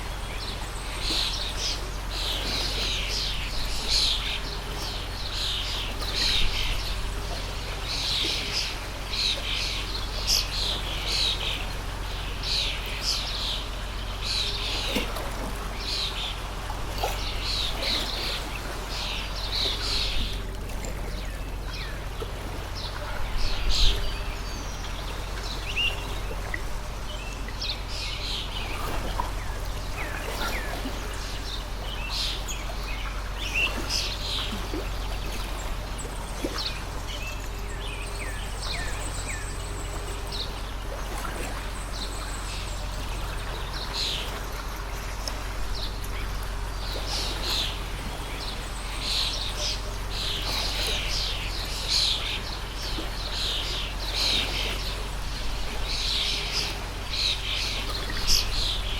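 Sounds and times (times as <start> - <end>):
low steady hum: 0.0 - 58.9
small birds chirping: 0.0 - 58.9
stream flowing: 0.0 - 58.9.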